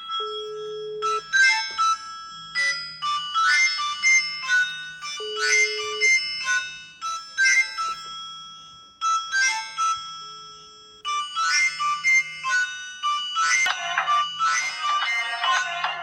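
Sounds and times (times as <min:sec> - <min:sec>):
bell-like ringtone melody: 0:00.0 - 0:16.0.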